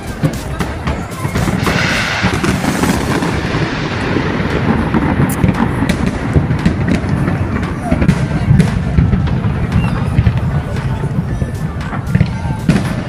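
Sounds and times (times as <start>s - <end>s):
fireworks hissing crackle: 0.0s - 13.0s
fireworks sharp cracks: 0.0s - 13.0s
fireworks shells bursting: 0.0s - 13.0s.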